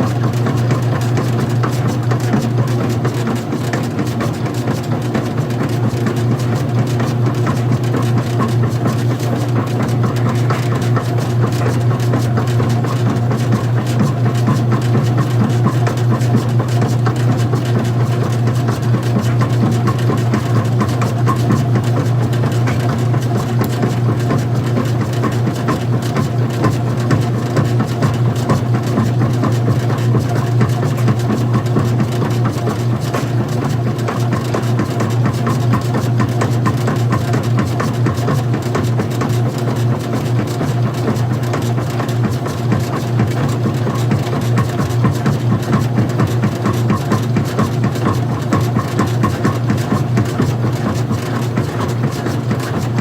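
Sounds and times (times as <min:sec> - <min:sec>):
washing machine mechanical rattle: 0:00.0 - 0:53.0
washing machine motor hum: 0:00.0 - 0:53.0.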